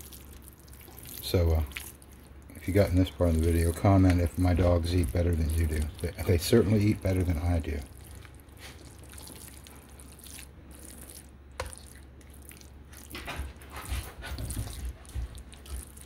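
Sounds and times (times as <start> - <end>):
metal spoon stirring wet mash: 0.0 - 16.0.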